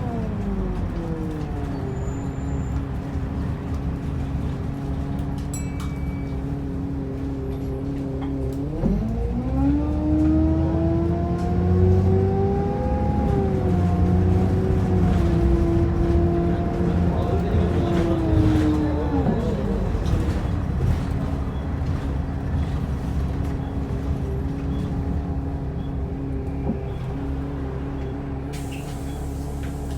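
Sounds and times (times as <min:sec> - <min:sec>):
bus engine accelerating: 0:00.0 - 0:29.9.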